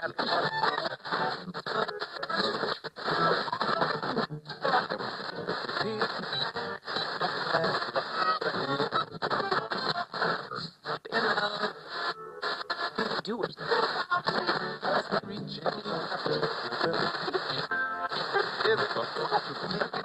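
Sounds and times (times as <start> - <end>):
radio being tuned: 0.0 - 20.0
snatches of radio music and voices: 0.0 - 20.0.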